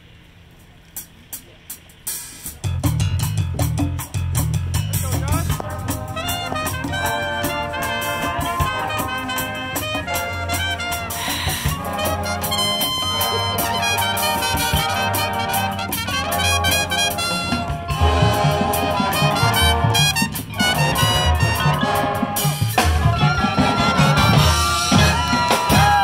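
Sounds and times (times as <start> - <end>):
percussion: 0.9 - 26.0
marching band brass music: 2.1 - 26.0
saxophones: 4.7 - 26.0
trumpet: 4.9 - 26.0.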